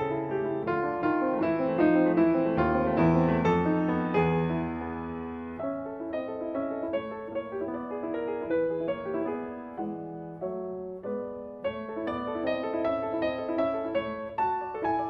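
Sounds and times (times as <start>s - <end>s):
solo grand piano: 0.0s - 15.0s.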